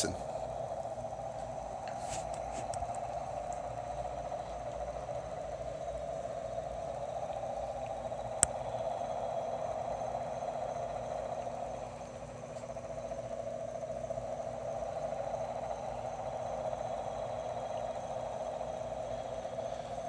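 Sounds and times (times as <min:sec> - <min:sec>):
mid-pitched droning hum: 0:00.0 - 0:20.0.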